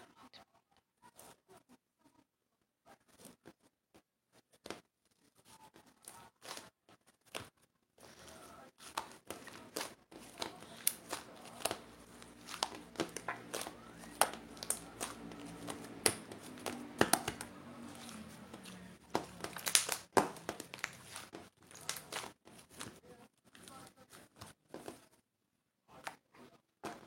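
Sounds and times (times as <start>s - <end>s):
crinkling and crackling clicks: 2.9s - 25.2s.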